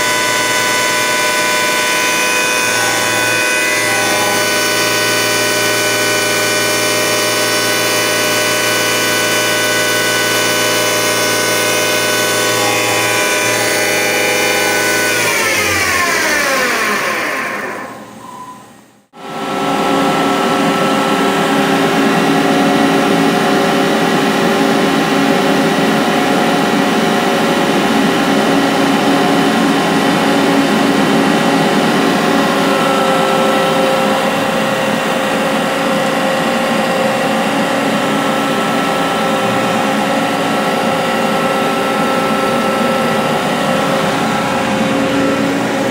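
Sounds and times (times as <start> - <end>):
lathe spindle whining: 0.0 - 19.0, 20.1 - 45.9.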